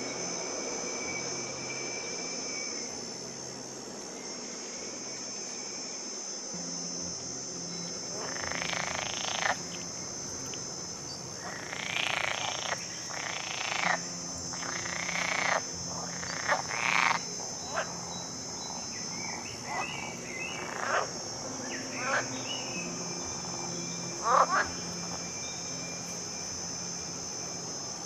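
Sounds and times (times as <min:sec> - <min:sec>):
insects chorus: 0:00.0 - 0:28.0.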